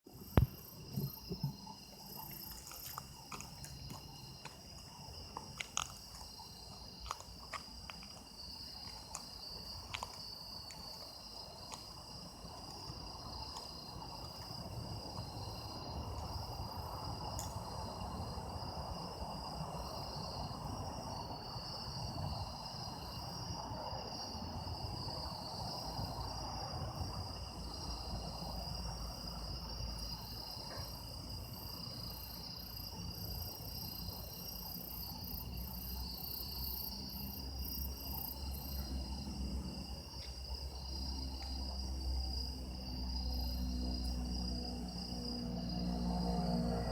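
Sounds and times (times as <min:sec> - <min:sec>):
crickets chirping: 0:00.1 - 0:46.9.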